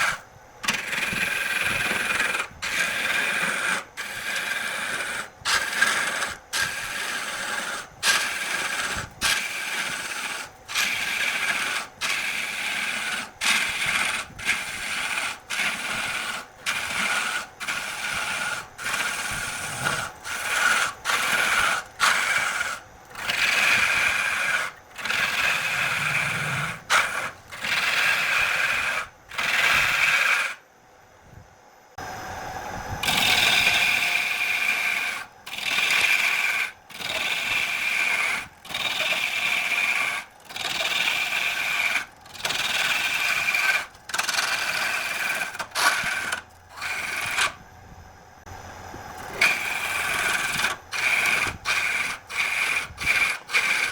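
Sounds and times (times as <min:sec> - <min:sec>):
lathe tool cutting wood: 0:00.0 - 0:30.6, 0:33.0 - 0:47.6, 0:49.3 - 0:53.9.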